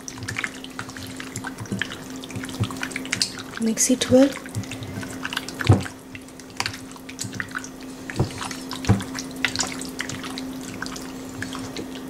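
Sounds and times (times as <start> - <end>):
hand squishing meat in marinade: 0.0 - 12.0
wet squelches and clicks: 0.0 - 12.0.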